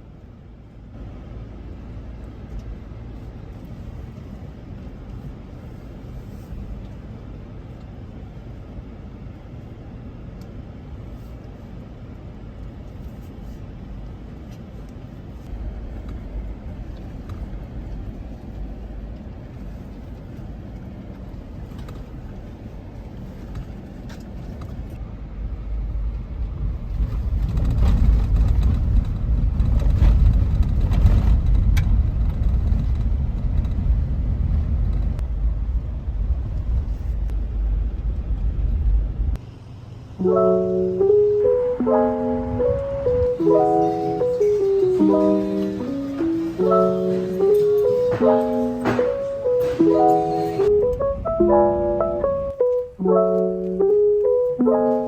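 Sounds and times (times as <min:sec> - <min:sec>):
vehicle engine and tyres rumbling: 0:00.0 - 0:55.0.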